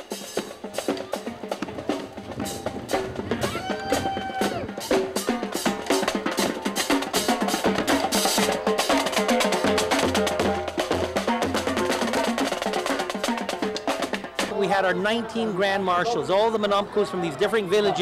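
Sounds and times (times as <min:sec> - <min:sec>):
music with fast percussion: 0:00.0 - 0:16.7.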